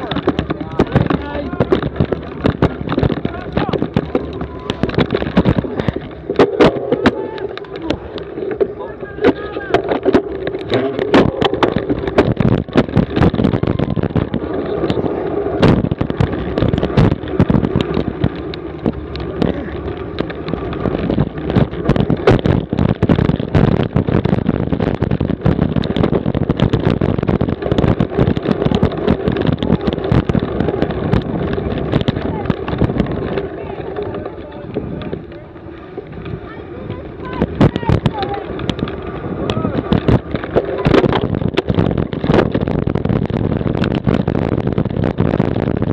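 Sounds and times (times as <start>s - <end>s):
bike rattling and knocking: 0.0s - 45.9s
tyre and wind noise: 0.0s - 45.9s.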